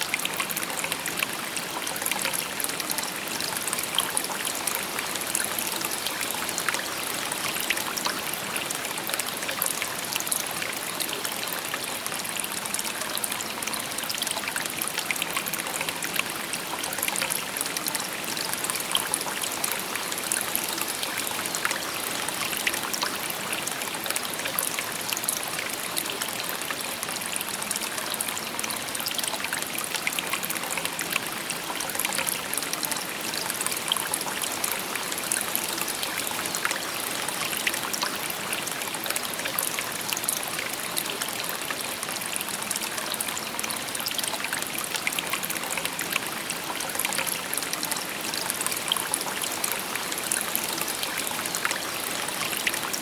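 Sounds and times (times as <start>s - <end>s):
stream babbling over stones: 0.0s - 53.0s.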